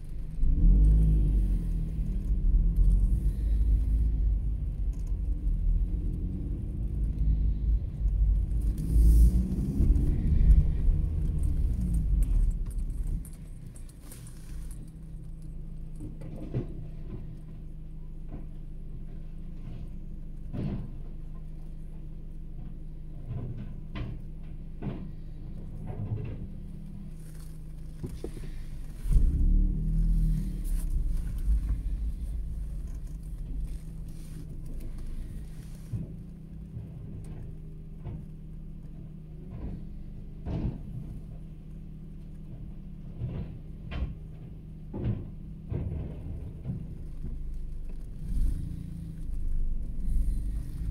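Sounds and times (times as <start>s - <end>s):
truck engine hum: 0.0s - 50.9s.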